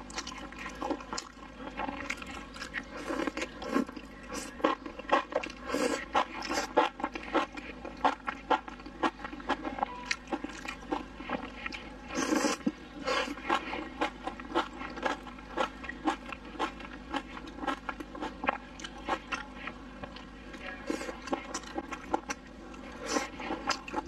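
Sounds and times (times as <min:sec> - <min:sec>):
biting and chewing: 0:00.0 - 0:20.3, 0:20.9 - 0:24.0.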